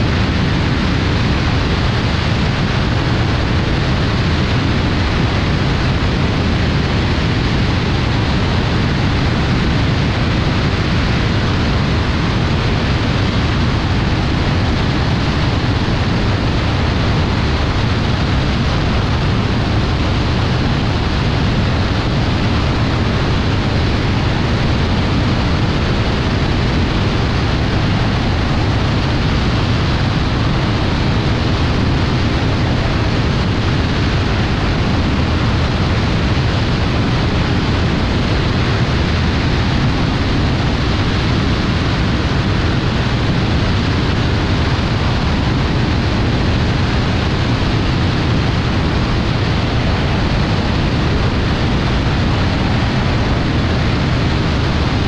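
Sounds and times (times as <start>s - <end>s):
aircraft engine and propeller drone: 0.0s - 55.0s
rush of airflow: 0.0s - 55.0s.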